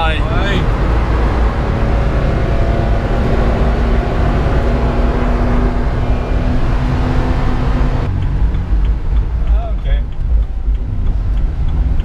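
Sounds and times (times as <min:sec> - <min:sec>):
car engine pulling hard: 0:00.0 - 0:12.0
road and wind noise: 0:00.0 - 0:12.0.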